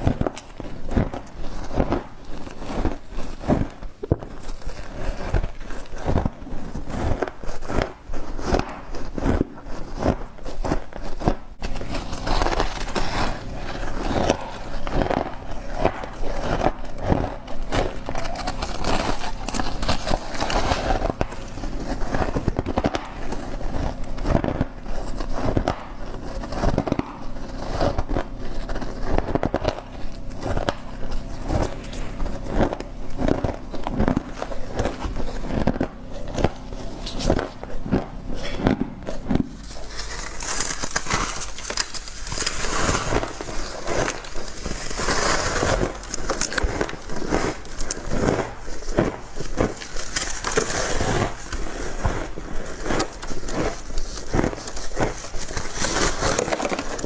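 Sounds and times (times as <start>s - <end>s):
frost crunching when chewed: 0.0s - 57.0s.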